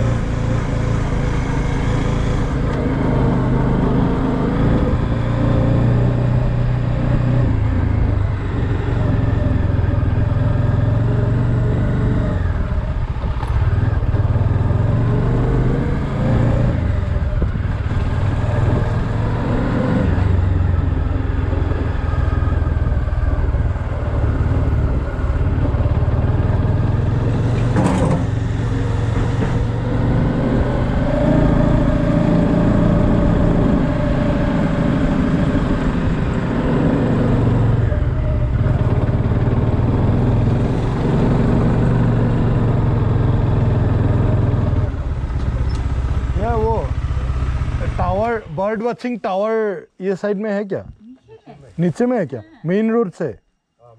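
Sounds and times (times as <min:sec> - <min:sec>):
motorcycle engine running: 0:00.0 - 0:48.6.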